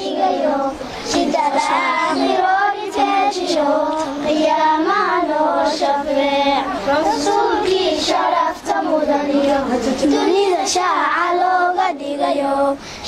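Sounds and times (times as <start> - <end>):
girls singing together: 0.0 - 13.0.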